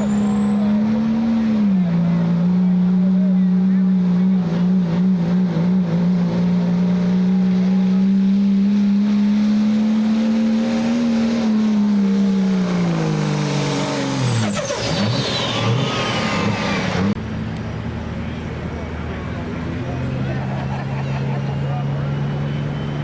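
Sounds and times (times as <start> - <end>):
diesel truck engine at full throttle: 0.0 - 23.0.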